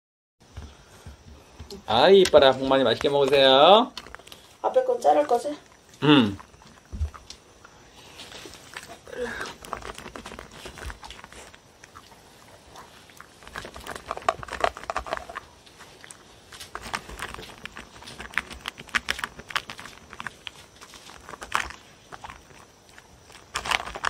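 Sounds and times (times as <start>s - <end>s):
dog crunching dry kibble: 2.2s - 7.4s, 8.3s - 24.0s.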